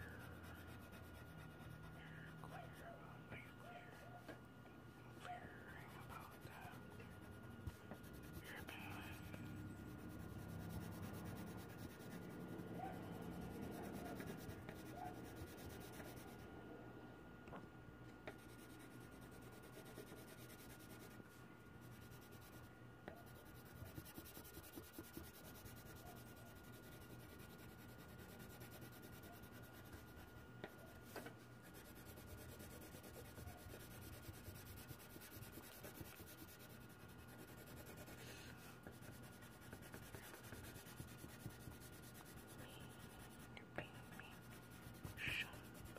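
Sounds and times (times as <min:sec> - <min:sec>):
pencil scratching on paper: 0:00.0 - 0:02.9, 0:05.8 - 0:16.5, 0:18.3 - 0:45.9.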